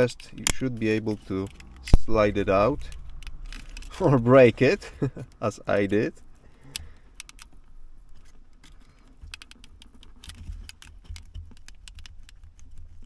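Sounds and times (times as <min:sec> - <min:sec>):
metal pick clicking on plastic: 0:00.0 - 0:04.0, 0:05.2 - 0:13.0.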